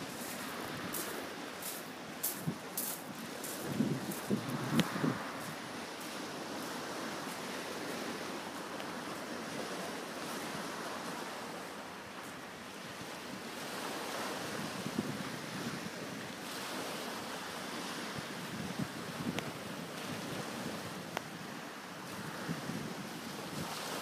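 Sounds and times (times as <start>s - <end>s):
wind on microphone: 0.0s - 11.4s, 12.8s - 24.0s
waves washing over shingle: 0.0s - 24.0s.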